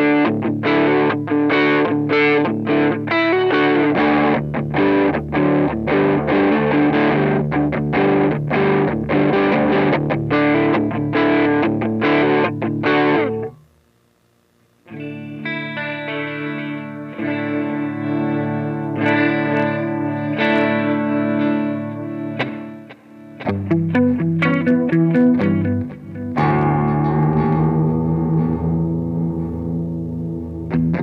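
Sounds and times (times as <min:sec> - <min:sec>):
dull guitar tone: 0:00.0 - 0:13.7, 0:14.8 - 0:31.0
distorted electric guitar riff: 0:00.0 - 0:13.8, 0:14.7 - 0:31.0.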